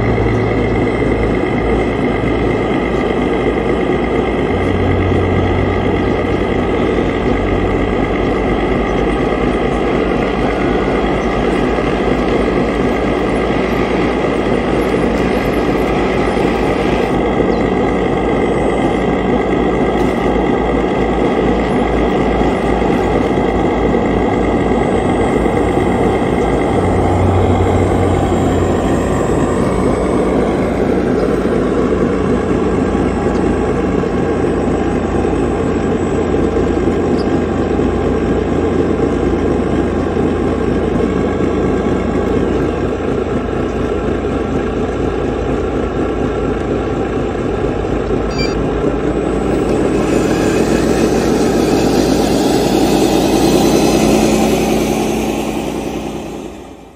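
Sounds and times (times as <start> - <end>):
excavator engine drone: 0.0 - 56.9.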